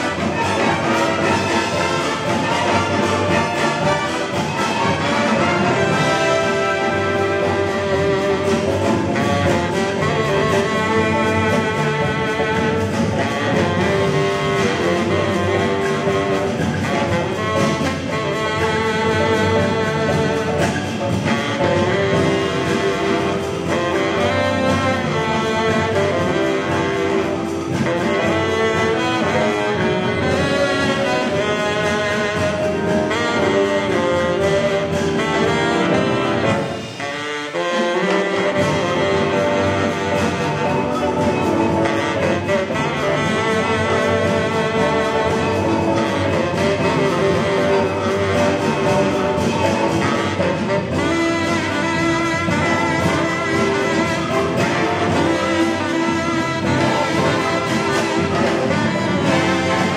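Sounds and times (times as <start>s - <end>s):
baritone saxophone: 0.0s - 59.9s
jazz big band playing: 0.0s - 59.9s.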